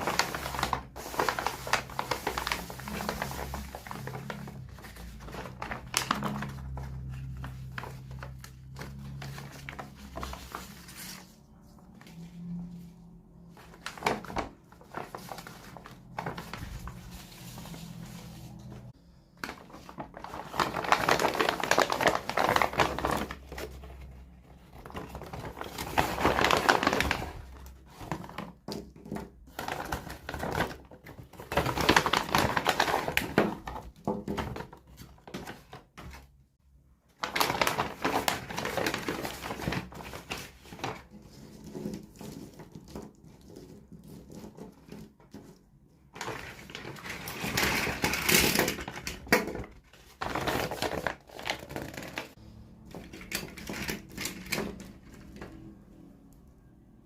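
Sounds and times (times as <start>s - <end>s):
plastic packaging crinkling: 0.0s - 11.4s, 13.5s - 36.2s, 37.1s - 55.7s.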